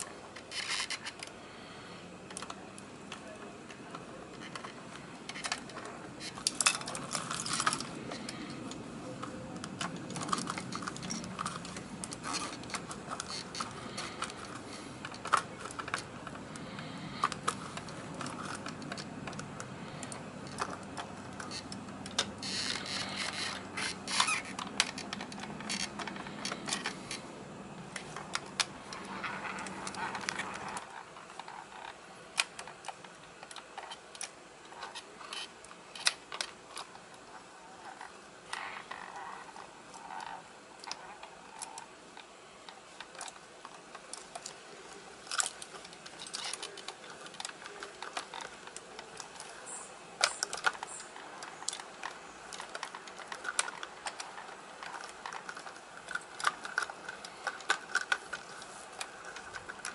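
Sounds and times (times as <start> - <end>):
plastic toy truck clicks and rattles: 0.0 - 1.4, 2.2 - 59.9
low background hum: 0.0 - 59.9.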